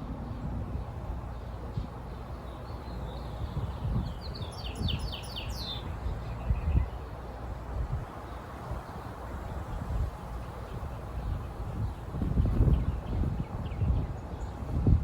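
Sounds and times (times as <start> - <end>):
songbird singing: 0.2 - 14.8.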